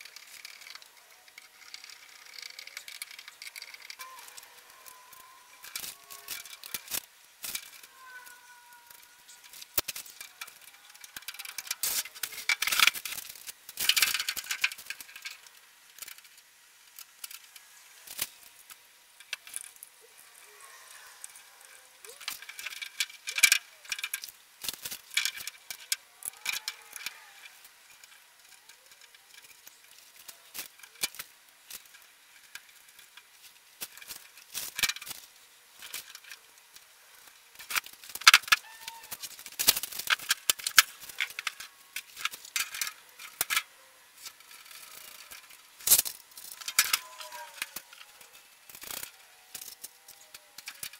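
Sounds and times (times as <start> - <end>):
metal parts clicking and rattling: 0.0 - 50.9.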